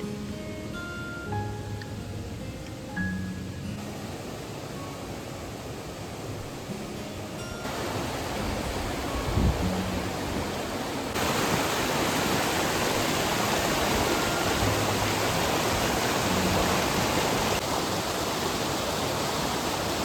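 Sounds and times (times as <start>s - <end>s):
mountain stream rushing: 3.7s - 20.0s.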